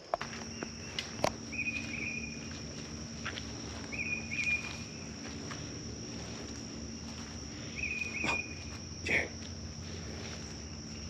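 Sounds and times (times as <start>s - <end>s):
footsteps on leaf litter: 0.0s - 11.0s
high insect trill: 0.0s - 11.0s.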